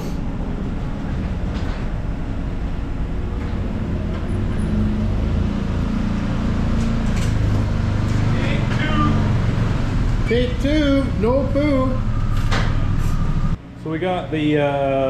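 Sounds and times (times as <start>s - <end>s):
off-road vehicle engine rumble: 0.0s - 13.6s.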